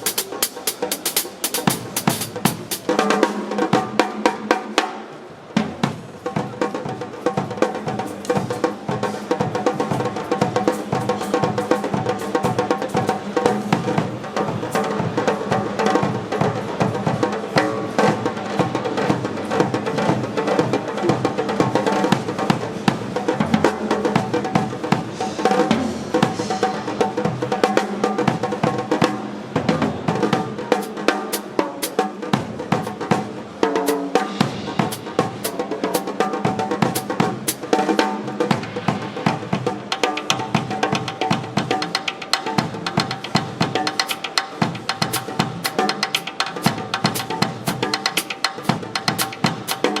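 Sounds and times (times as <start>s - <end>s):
cymbals: 0.0s - 50.0s
snare drum: 0.0s - 50.0s.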